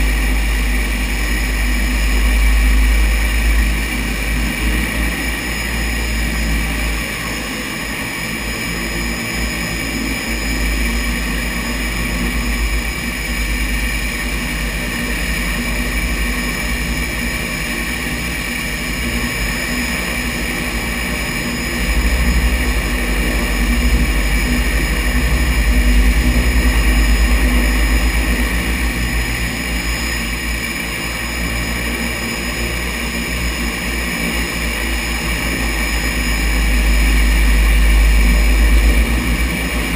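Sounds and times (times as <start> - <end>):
floatplane engines and propellers: 0.0 - 39.9.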